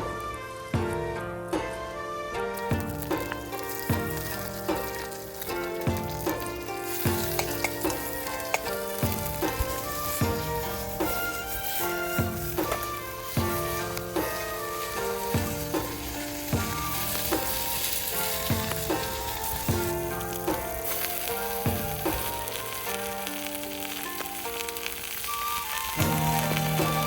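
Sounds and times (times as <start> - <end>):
melodic background music: 0.0 - 27.0
food sizzling in a pan: 2.6 - 27.0.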